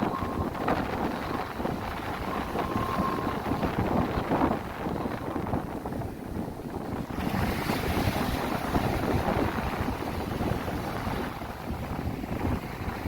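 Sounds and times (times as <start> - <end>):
sea waves washing: 0.0 - 13.0
wind gusting on microphone: 0.0 - 13.0.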